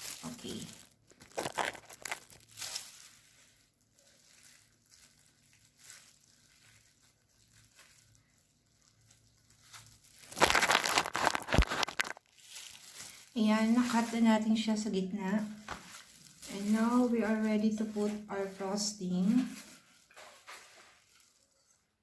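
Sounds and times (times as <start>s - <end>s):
wrapping crinkling: 0.0s - 22.0s.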